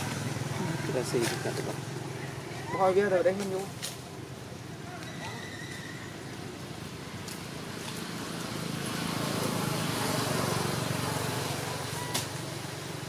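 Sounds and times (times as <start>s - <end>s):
vehicle passing by: 0.0s - 3.8s, 6.1s - 13.0s.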